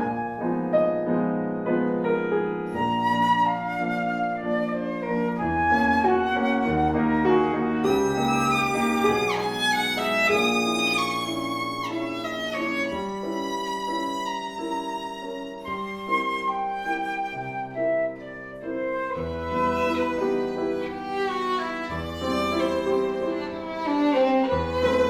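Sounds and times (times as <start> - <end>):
instrumental trio melody: 0.0 - 25.0.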